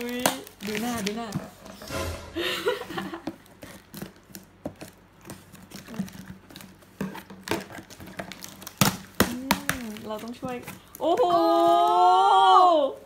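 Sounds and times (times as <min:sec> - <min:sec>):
packing tape crinkling: 0:00.0 - 0:01.8, 0:03.0 - 0:12.5.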